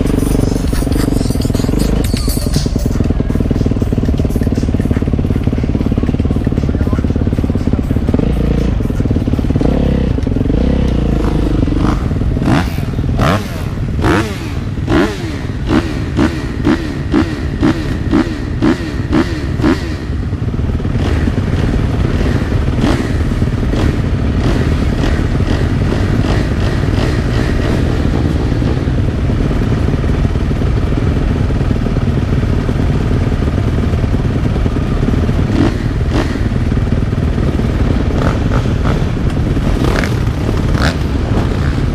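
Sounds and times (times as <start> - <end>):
motocross motorcycle engine: 0.0 - 41.9.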